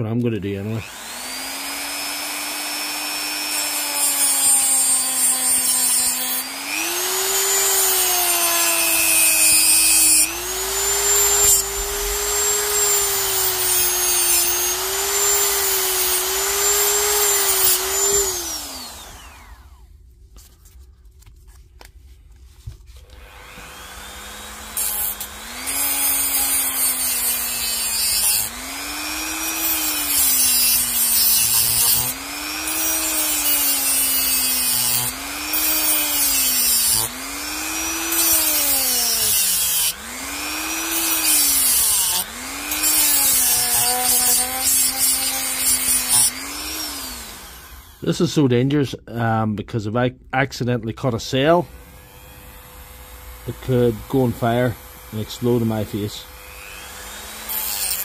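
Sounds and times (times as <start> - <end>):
rotary tool cutting: 0.6 - 19.9, 23.0 - 48.1, 51.7 - 58.0.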